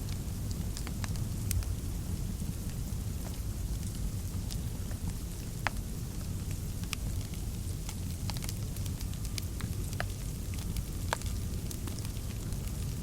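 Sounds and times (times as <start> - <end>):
fire crackles and pops: 0.0 - 13.0
fire rumbling in fireplace: 0.0 - 13.0.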